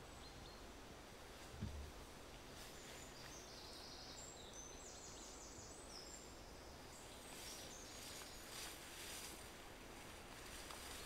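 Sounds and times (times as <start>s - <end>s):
songbird singing: 0.0s - 9.4s.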